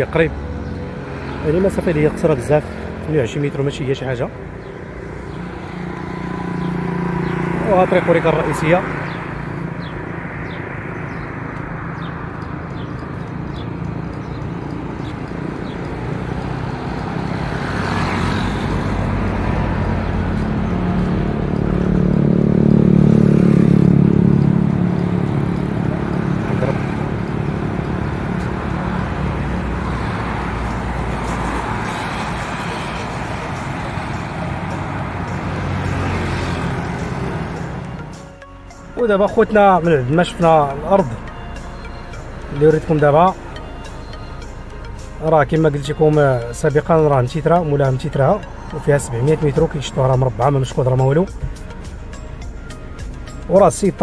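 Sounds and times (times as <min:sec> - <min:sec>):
road traffic rumble: 0:00.0 - 0:54.0
vehicle engine passing close: 0:00.0 - 0:54.0.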